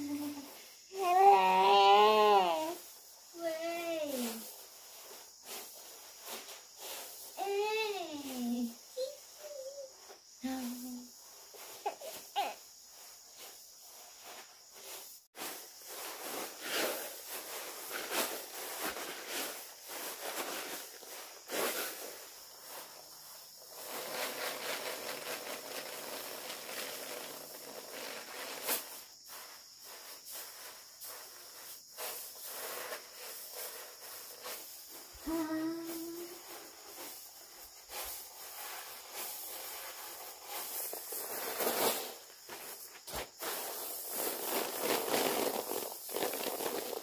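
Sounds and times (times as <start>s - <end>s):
grain pattering onto a tarp: 0.0s - 47.0s
insects buzzing: 0.0s - 47.0s
rice stalks rustling: 0.0s - 47.0s.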